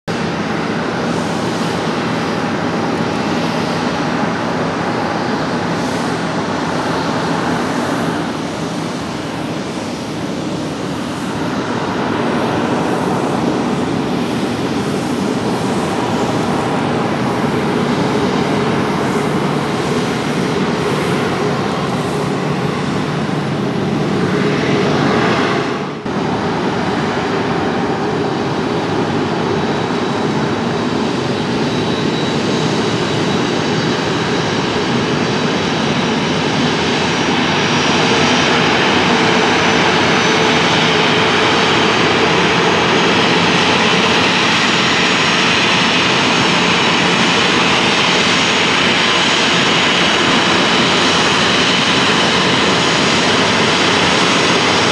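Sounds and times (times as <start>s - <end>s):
jet engines at taxi power: 0.0s - 54.9s.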